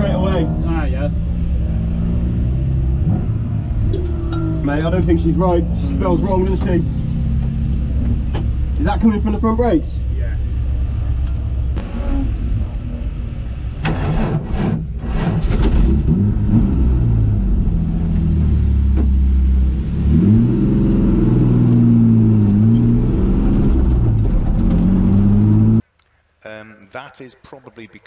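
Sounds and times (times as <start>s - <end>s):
car engine idling and revving: 0.0s - 25.8s.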